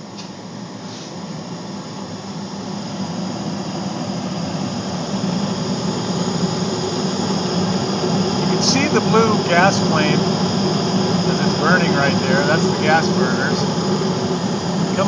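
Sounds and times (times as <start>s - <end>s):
gas furnace humming: 0.0s - 15.0s.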